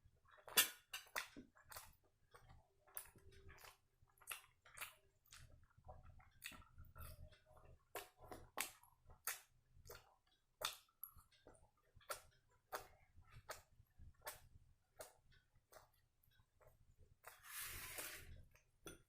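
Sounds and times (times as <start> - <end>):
person chewing wet food: 0.0 - 19.0.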